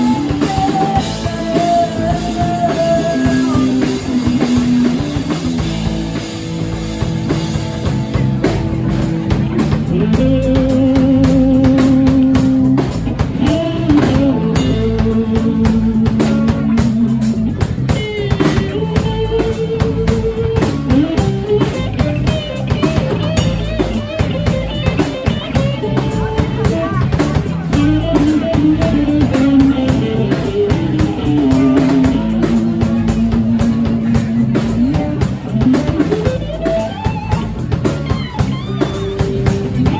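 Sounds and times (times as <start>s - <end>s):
lead guitar held notes with vibrato: 0.0s - 39.9s
live rock band playing: 0.0s - 39.9s.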